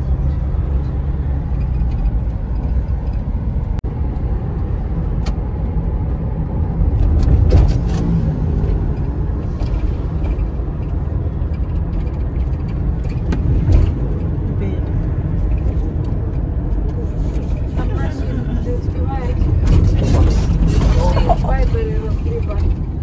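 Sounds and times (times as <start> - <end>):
vehicle cabin road rumble: 0.0 - 23.0.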